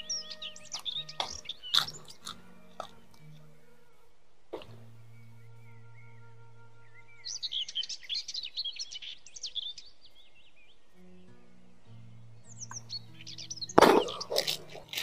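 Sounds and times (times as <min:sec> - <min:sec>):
birds chirping: 0:00.0 - 0:15.0
soft music with low notes: 0:00.0 - 0:15.0.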